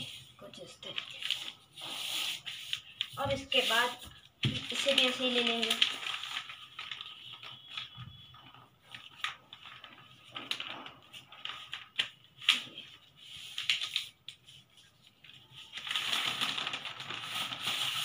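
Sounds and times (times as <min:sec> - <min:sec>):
paper rustling and crinkling: 0:00.0 - 0:18.0.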